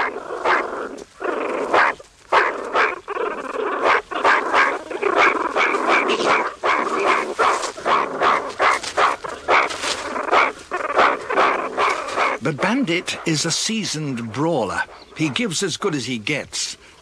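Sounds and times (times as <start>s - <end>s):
meerkats calling harshly: 0.0s - 17.0s.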